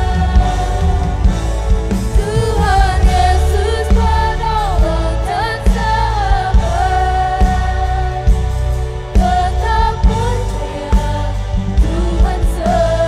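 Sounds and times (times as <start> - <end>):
drums over a steady beat: 0.0 - 13.0
keyboard: 0.0 - 13.0
sliding lead melody: 0.0 - 13.0.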